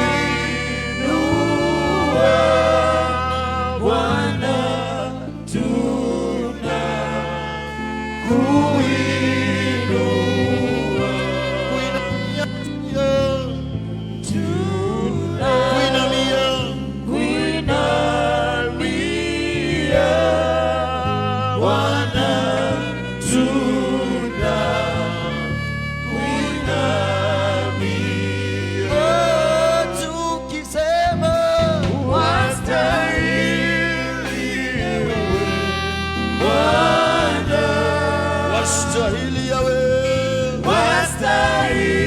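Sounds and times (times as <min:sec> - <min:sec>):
bass: 0:00.0 - 0:42.0
choir singing a slow song: 0:00.0 - 0:42.0
keyboard chords: 0:00.0 - 0:42.0.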